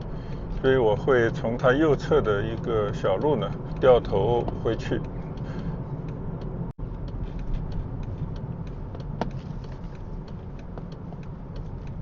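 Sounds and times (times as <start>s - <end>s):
engine and road rumble: 0.0s - 12.0s
faint regular ticking: 0.0s - 12.0s.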